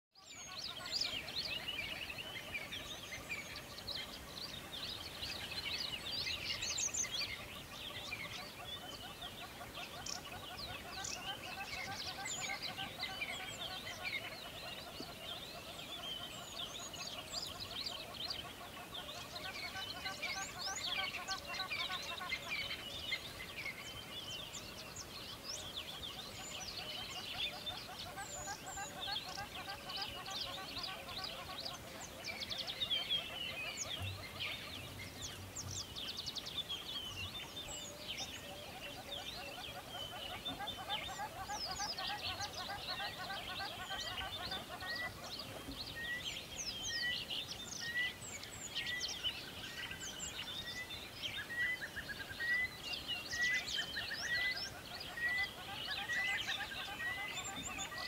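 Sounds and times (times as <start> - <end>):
small birds chirping: 0.1 - 58.0.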